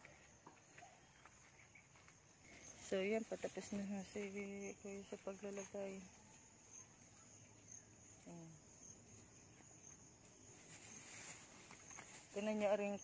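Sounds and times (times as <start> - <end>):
high-pitched insect trill: 1.5 - 13.0.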